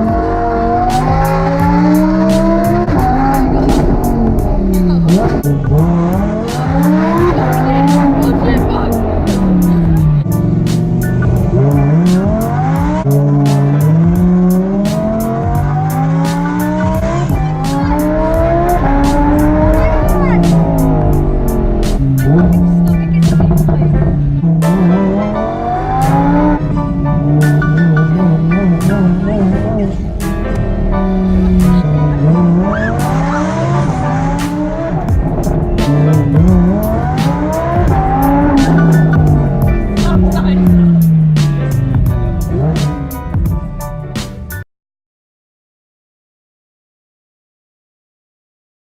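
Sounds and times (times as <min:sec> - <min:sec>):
background music beat: 0:00.0 - 0:44.6
car engine accelerating: 0:00.0 - 0:44.6.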